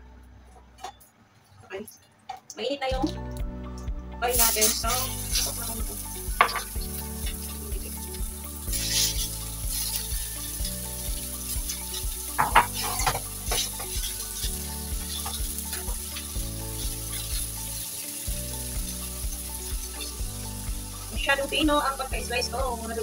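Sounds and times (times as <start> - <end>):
pork sizzling in a wok: 4.2 - 23.0.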